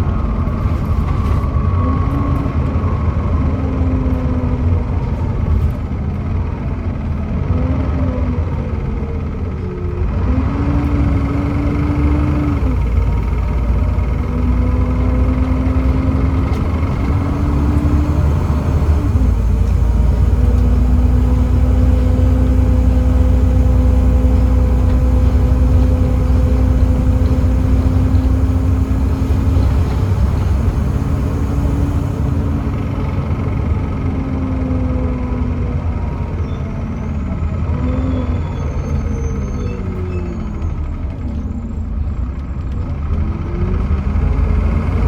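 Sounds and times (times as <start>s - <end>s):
drivetrain whine: 0.0s - 43.9s
bus diesel engine rumble: 0.0s - 45.0s.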